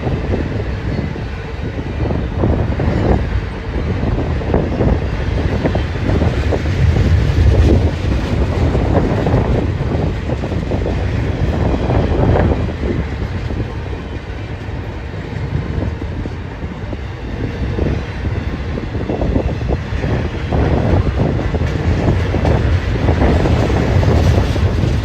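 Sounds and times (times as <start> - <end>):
train clatter: 0.0 - 25.0
train wheels rumbling on rails: 0.0 - 25.0.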